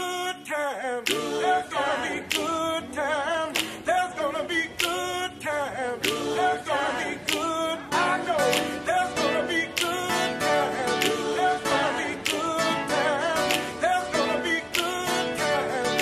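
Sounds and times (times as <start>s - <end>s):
voices singing in harmony: 0.0s - 16.0s.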